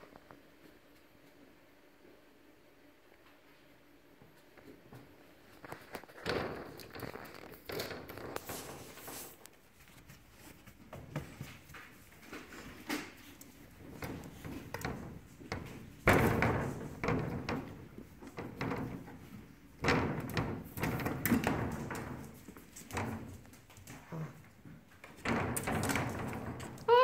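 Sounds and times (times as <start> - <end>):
puppies pawing at a panel: 5.0 - 27.0.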